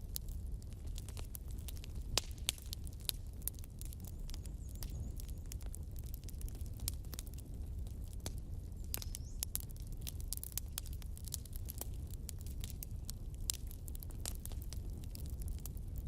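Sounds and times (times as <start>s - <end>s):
burning logs popping: 0.0s - 16.0s
low rumble of flames: 0.0s - 16.0s.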